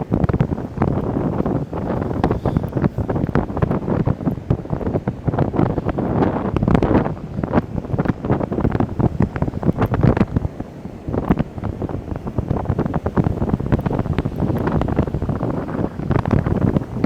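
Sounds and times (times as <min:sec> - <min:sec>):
heavy ocean surf: 0:00.0 - 0:17.0
wind buffeting microphone: 0:00.0 - 0:17.0.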